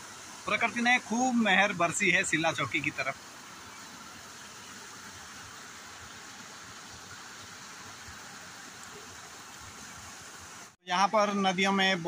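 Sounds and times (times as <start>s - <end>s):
waterfall rushing over boulders: 0.0s - 12.0s.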